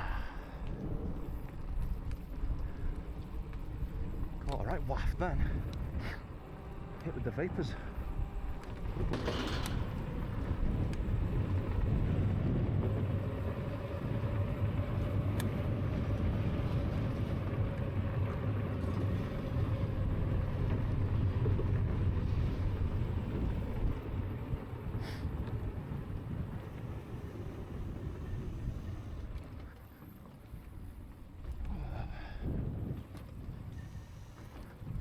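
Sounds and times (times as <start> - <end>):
faint motor whine: 0.0 - 35.0
wind and tyres rumbling: 0.0 - 35.0.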